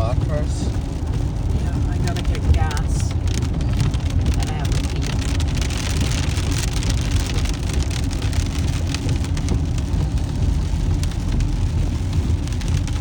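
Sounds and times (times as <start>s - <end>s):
heavy rain on car roof: 0.0s - 13.0s
road and engine rumble: 0.0s - 13.0s.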